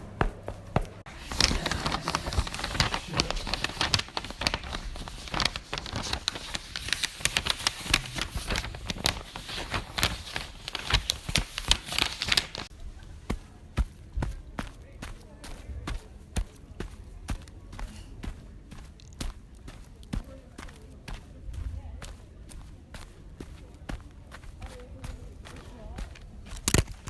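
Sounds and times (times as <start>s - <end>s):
rustling noise: 0.0s - 27.0s
dense crackling and crinkling: 0.3s - 27.0s.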